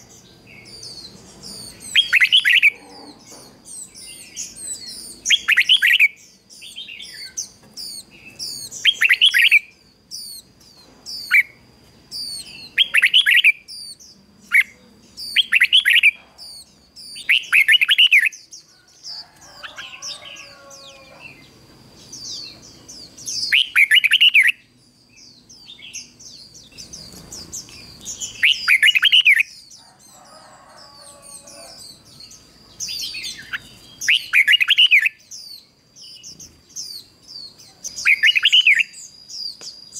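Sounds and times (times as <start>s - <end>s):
bird singing loud phrases: 0.0s - 39.9s.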